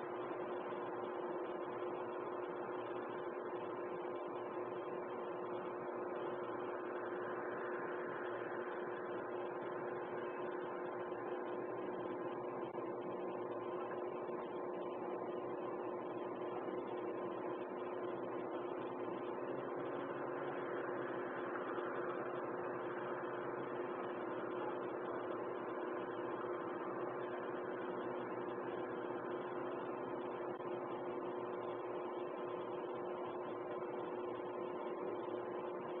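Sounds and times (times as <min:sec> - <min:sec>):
steady hum with held tones: 0:00.0 - 0:36.0.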